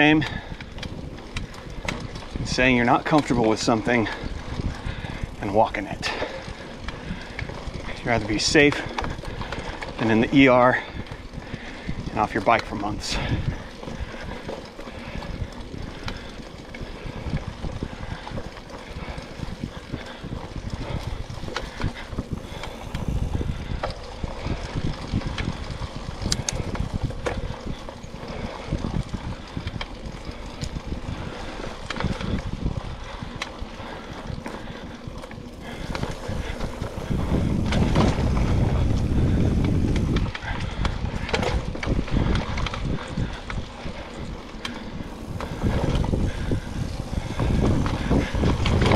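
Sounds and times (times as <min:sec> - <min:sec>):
bike chain and frame rattling: 0:00.0 - 0:48.9
bike tyres on dirt trail: 0:00.0 - 0:48.9
wind rumble on microphone: 0:00.0 - 0:48.9.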